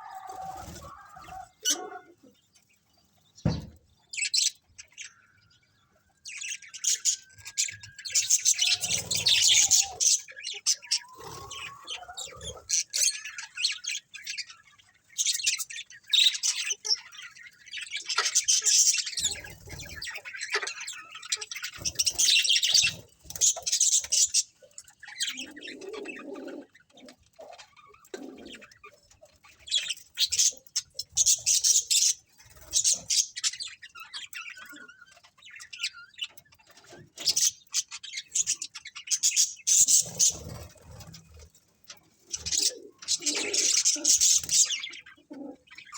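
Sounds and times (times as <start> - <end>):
budgerigars chirping and chattering: 0.0 - 45.9.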